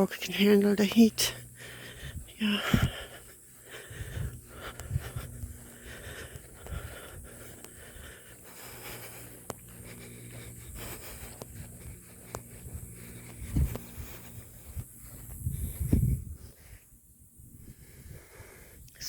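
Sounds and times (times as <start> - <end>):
person breathing hard: 1.2 - 19.0.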